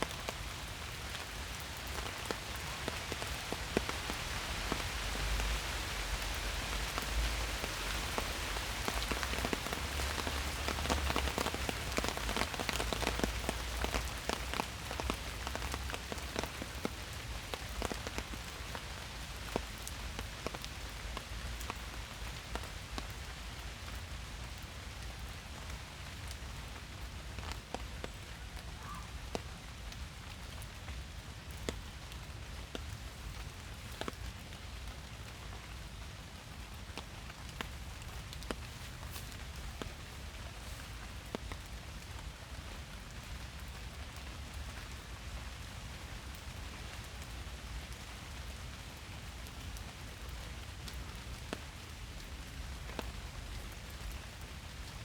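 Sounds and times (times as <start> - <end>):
rain falling on leaves: 0.0 - 55.0.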